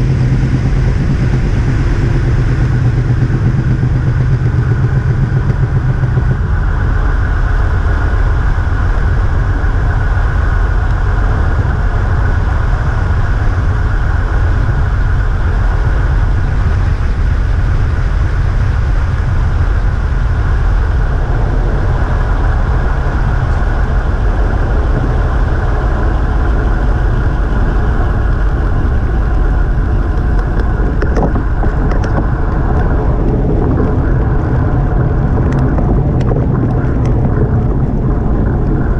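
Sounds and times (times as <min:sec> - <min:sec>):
road noise: 0:00.0 - 0:38.9
wind rushing on microphone: 0:00.0 - 0:38.9.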